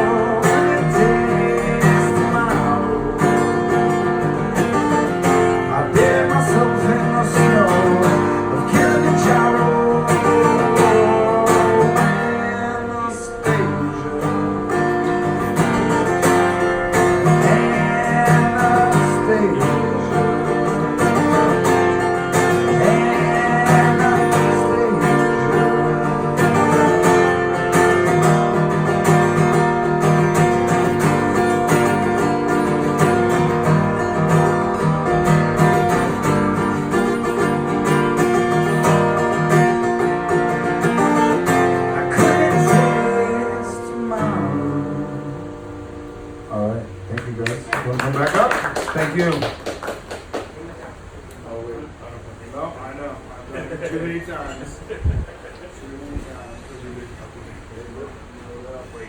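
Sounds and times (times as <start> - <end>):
acoustic guitar strummed and picked: 0.0 - 47.8.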